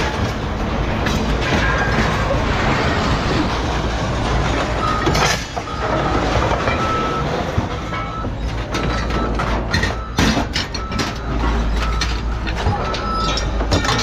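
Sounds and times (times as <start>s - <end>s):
metal clanking: 0.0s - 14.0s
scrapyard machinery running: 0.0s - 14.0s.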